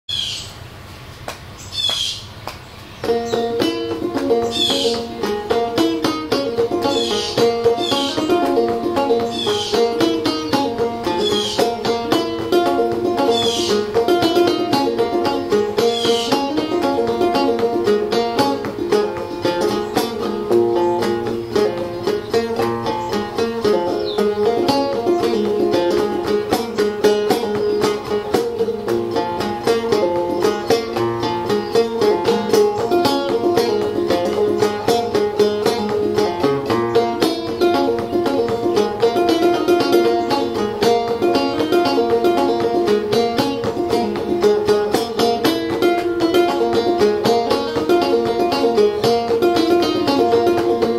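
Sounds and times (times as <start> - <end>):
banjo plucking and strumming: 2.6 - 50.9.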